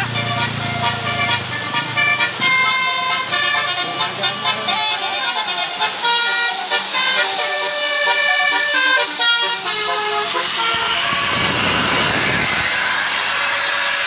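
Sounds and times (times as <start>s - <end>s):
musical bus horn tune: 0.0s - 14.0s
rush of passing bus: 0.0s - 14.0s.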